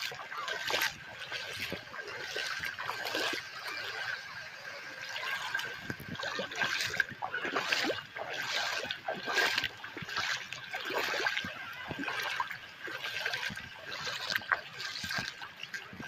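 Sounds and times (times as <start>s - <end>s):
water lapping and splashing: 0.0s - 16.0s.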